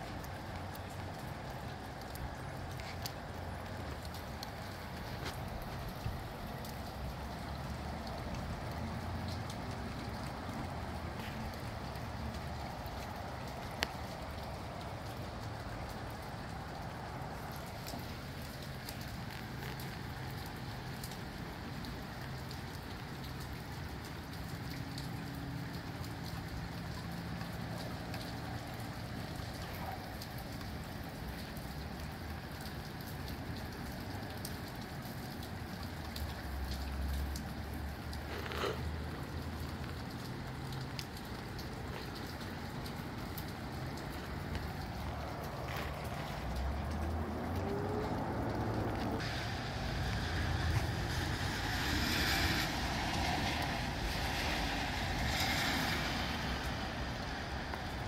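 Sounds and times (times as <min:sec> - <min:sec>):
low rumble of wind: 0:00.0 - 0:58.0
steady rain falling: 0:00.0 - 0:58.0.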